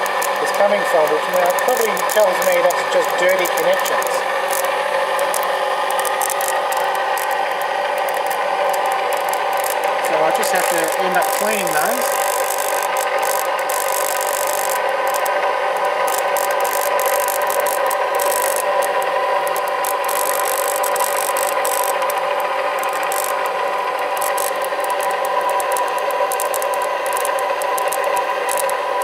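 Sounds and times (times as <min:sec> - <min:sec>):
motor-generator humming with rasp: 0:00.0 - 0:29.0.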